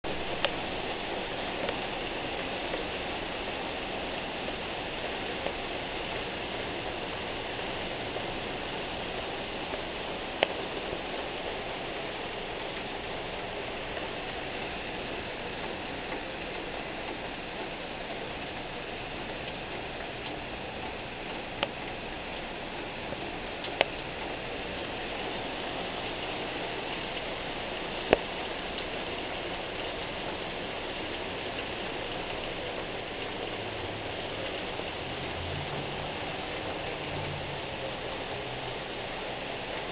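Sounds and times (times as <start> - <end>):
heavy rain on leaves and metal: 0.0 - 39.9.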